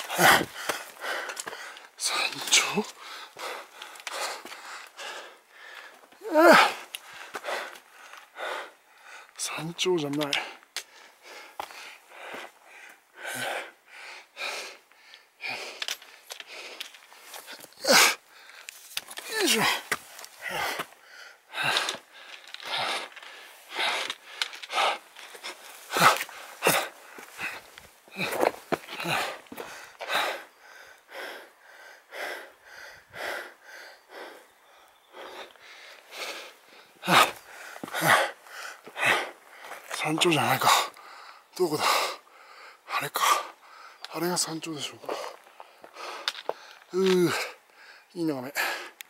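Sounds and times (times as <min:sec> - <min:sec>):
person breathing hard: 0:00.0 - 0:09.4, 0:10.3 - 0:39.9, 0:40.6 - 0:44.1, 0:45.0 - 0:49.0.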